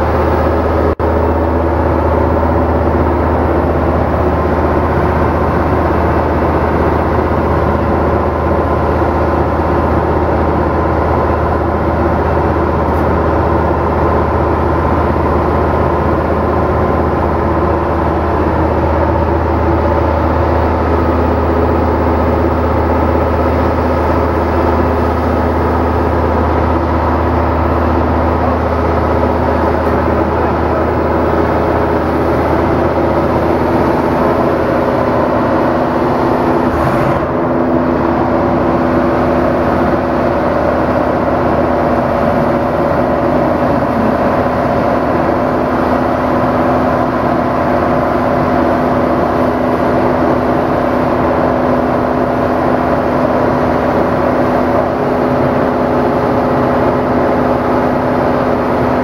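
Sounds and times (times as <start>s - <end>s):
concrete cutting machine running: 0.0s - 59.0s.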